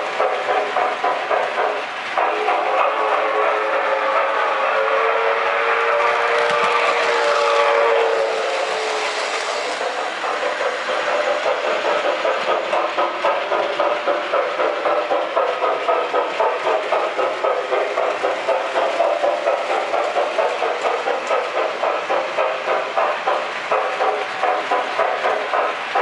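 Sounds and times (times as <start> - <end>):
rhythmic model train engine sound: 0.0 - 26.0.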